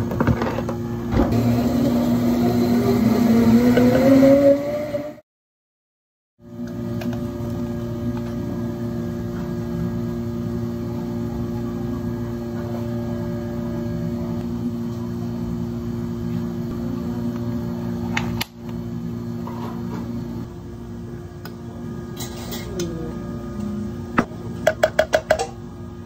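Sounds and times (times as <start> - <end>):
electrical machine hum: 0.0 - 5.2, 6.4 - 26.0.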